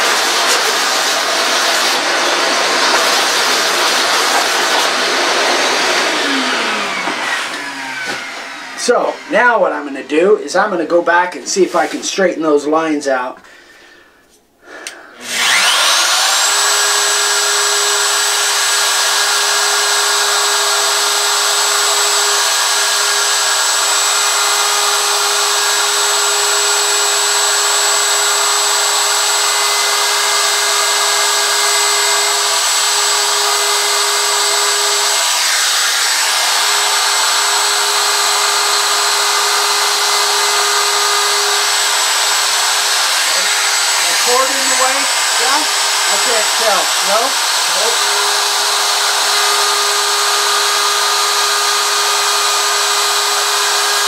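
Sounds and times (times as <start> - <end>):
router whining: 0.0 - 12.0, 14.7 - 54.0.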